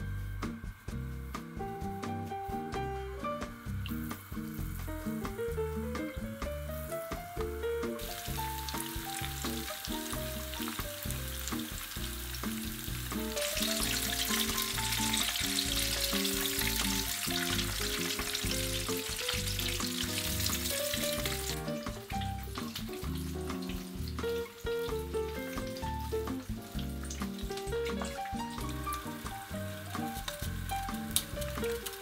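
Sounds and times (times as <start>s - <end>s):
deep-frying sizzle in oil: 0.0s - 32.0s
soft background music: 0.0s - 32.0s.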